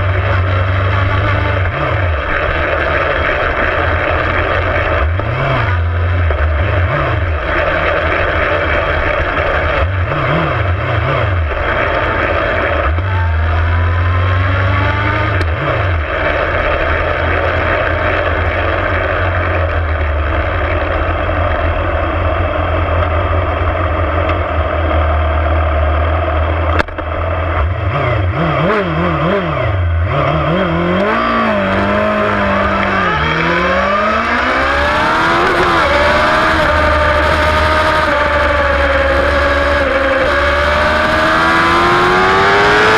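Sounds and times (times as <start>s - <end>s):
motorbike engine revving: 0.0s - 42.9s
steady rushing noise: 0.0s - 42.9s.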